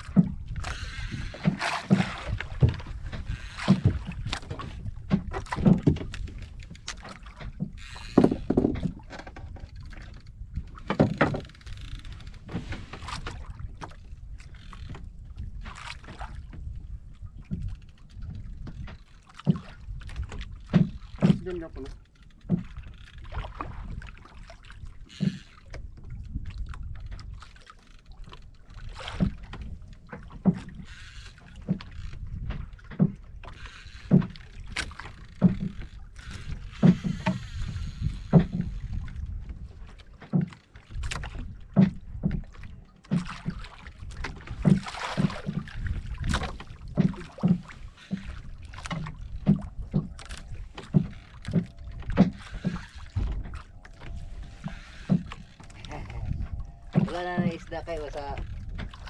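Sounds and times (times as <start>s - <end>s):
water slapping against boat hull: 0.0s - 59.0s
wind and sea rumble: 0.0s - 59.0s.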